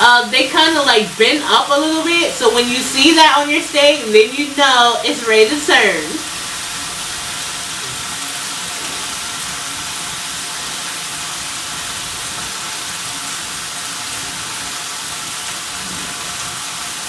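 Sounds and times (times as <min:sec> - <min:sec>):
steak sizzling in a pan: 0:00.0 - 0:17.0.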